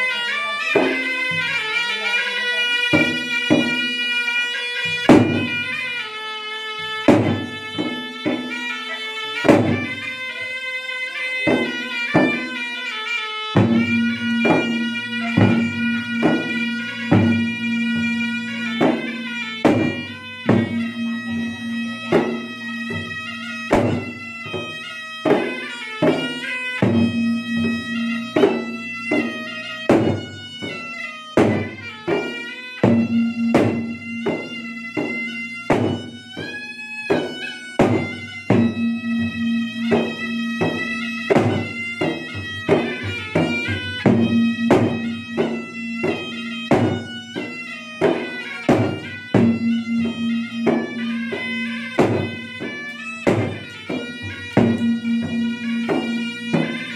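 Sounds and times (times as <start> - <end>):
shawm melody: 0.0 - 56.9
barrel drums beaten: 0.8 - 1.6, 2.9 - 4.1, 4.8 - 5.9, 6.8 - 8.6, 9.4 - 10.1, 11.4 - 12.7, 13.5 - 56.9.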